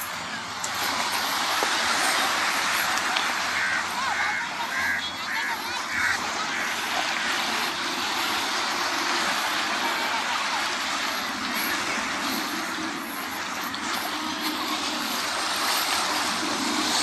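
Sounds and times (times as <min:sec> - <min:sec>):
ocean waves: 0:00.0 - 0:17.0
sea breeze: 0:00.0 - 0:17.0.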